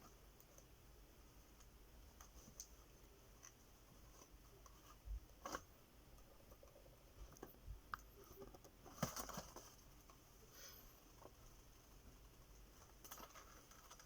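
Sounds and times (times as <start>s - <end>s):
rat eating with small crunches: 0.0s - 14.0s.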